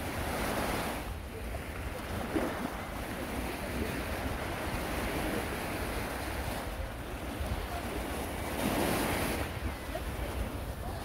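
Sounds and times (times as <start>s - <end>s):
small waves breaking on sand: 0.0s - 11.0s
wind rumbling on microphone: 0.0s - 11.0s.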